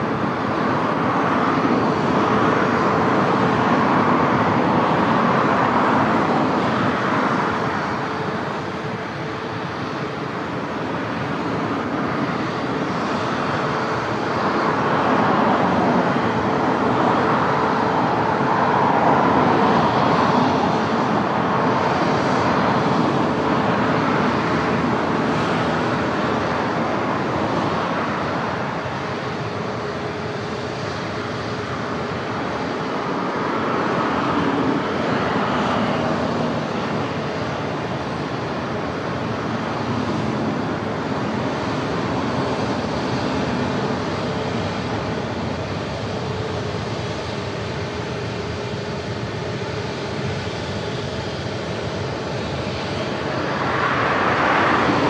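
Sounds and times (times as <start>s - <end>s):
jet engine roar: 0.0s - 55.0s.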